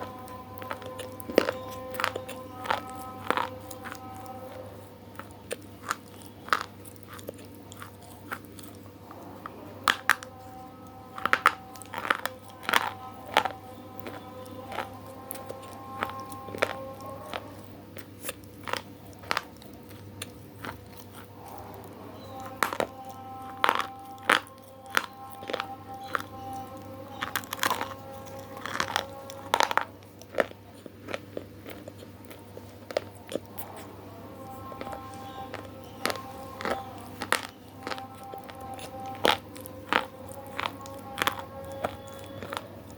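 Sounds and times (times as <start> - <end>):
crunchy food being chewed: 0.0 - 42.9.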